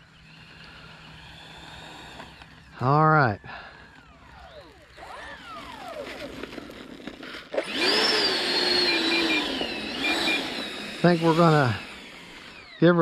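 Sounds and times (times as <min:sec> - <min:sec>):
model jet fans whining: 0:00.0 - 0:13.0.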